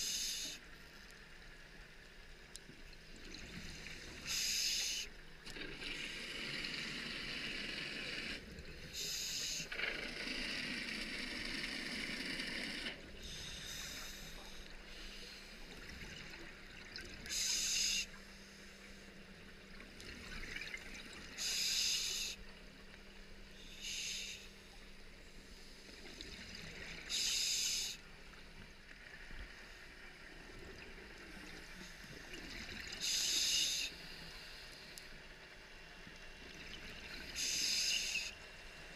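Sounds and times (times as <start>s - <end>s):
soft hissing and bubbling: 0.0s - 38.9s.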